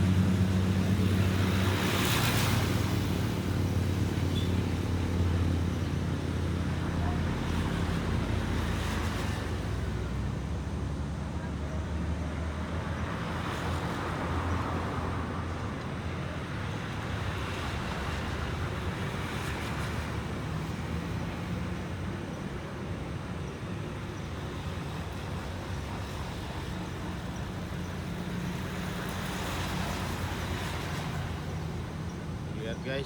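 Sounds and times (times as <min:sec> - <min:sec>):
low engine hum: 0:00.0 - 0:33.0
passing vehicles engines and tyres: 0:00.0 - 0:33.0.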